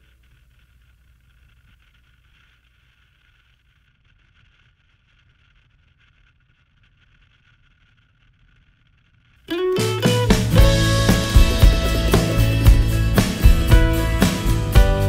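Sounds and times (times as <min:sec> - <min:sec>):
faint low rumble and hiss: 0:00.0 - 0:15.0.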